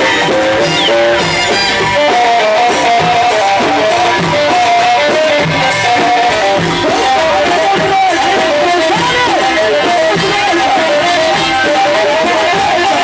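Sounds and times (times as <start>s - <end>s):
hand-beaten frame drums: 0.0s - 13.0s.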